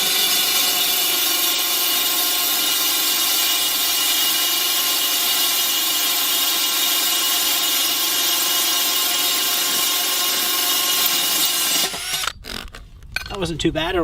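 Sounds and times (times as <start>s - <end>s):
drill grinding through tile: 0.0s - 12.8s.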